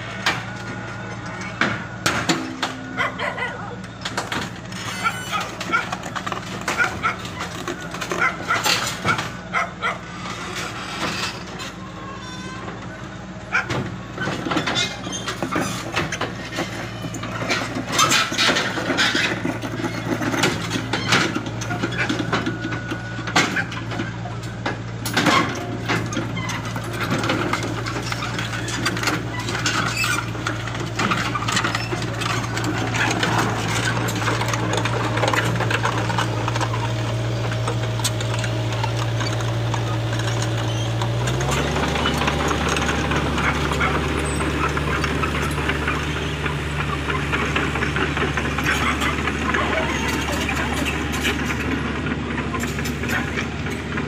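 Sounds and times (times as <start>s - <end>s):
excavator engine running: 0.0s - 54.0s
tracks clanking on metal ramps: 0.0s - 54.0s.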